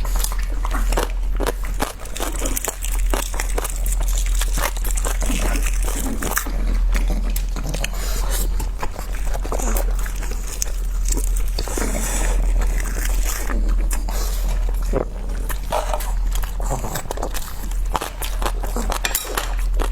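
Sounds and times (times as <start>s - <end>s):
person chewing food: 0.0s - 19.9s.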